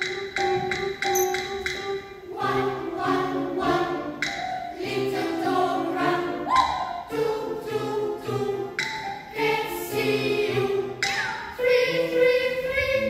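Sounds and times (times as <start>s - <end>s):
children's choir singing: 0.0s - 13.0s
piano chords: 0.0s - 13.0s.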